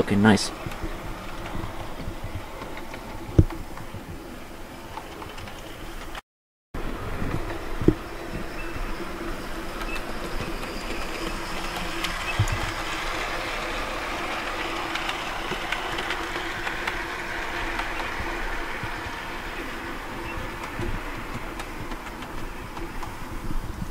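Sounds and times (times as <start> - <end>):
model train running on track: 0.0 - 6.2, 6.8 - 23.9
wheels clicking on rails: 0.0 - 6.2, 6.8 - 23.9.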